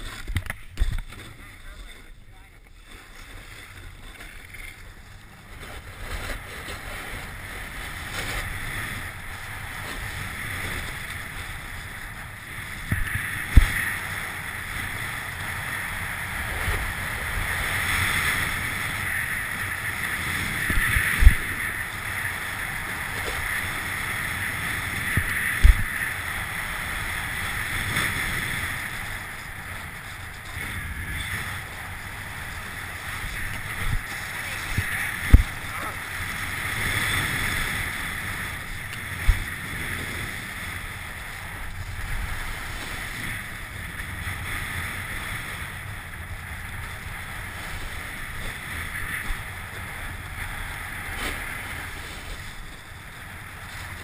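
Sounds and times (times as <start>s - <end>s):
snowboard scraping on snow: 0.0s - 54.0s
wind on microphone: 0.0s - 54.0s.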